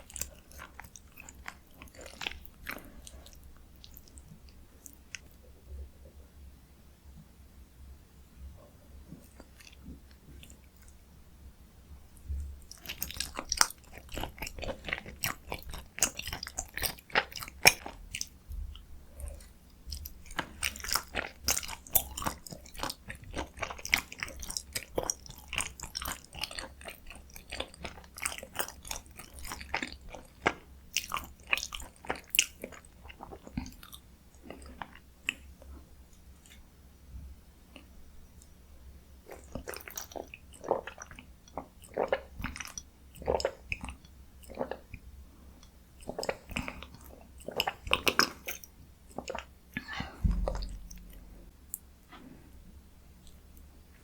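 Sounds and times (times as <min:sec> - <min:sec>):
wet chewing and mouth smacks: 0:00.0 - 0:05.4, 0:09.2 - 0:11.0, 0:12.2 - 0:36.6, 0:39.3 - 0:51.9.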